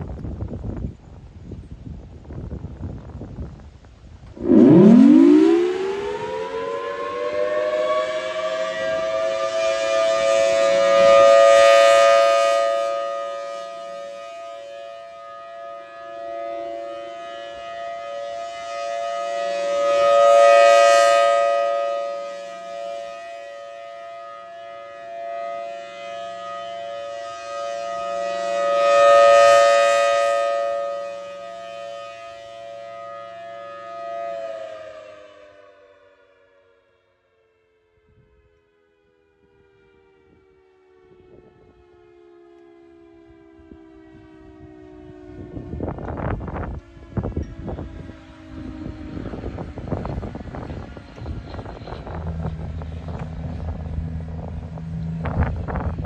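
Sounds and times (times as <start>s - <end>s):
two-tone warning siren wail: 0.0s - 56.0s.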